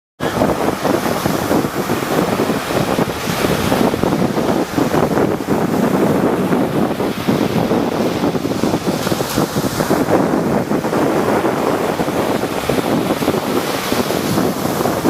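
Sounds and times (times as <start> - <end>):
sea surf crashing: 0.2 - 15.0
wind buffeting microphone: 0.2 - 15.0.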